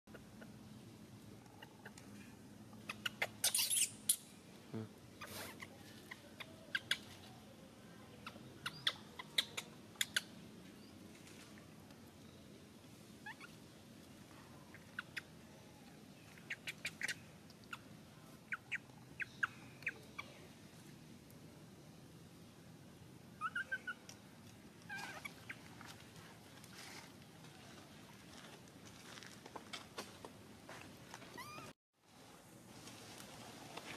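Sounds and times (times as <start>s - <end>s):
faint steady hiss: 0.2s - 33.9s.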